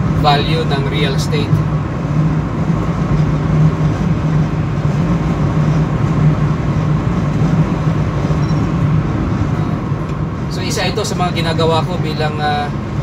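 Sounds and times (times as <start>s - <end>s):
car road and engine noise: 0.0s - 13.0s
constant low hum: 0.0s - 13.0s.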